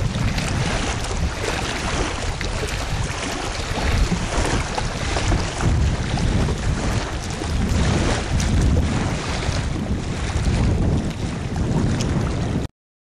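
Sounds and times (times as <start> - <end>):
choppy lake water: 0.0 - 12.7
rushing wind: 0.0 - 12.7
wind buffeting microphone: 0.0 - 12.7.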